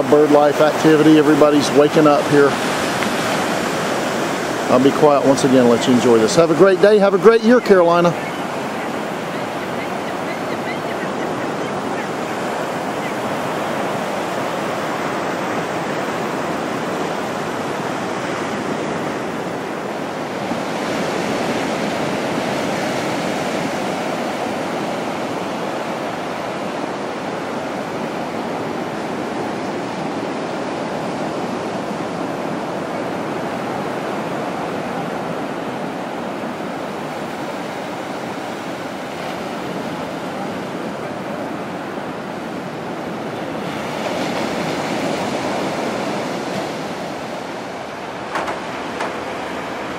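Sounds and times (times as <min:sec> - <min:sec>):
small surf washing up sand: 0:00.0 - 0:49.9.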